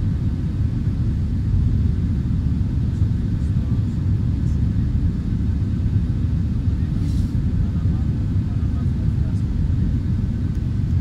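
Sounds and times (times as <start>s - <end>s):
jet engines and airflow rumble: 0.0s - 11.0s.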